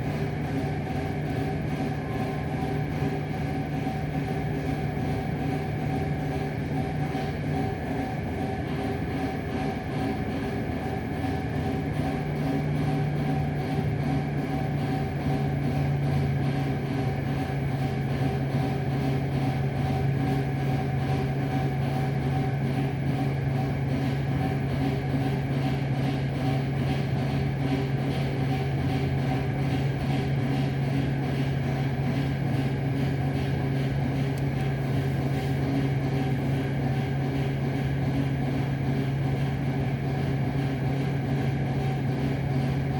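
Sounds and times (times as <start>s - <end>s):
mechanical hum: 0.0s - 42.9s.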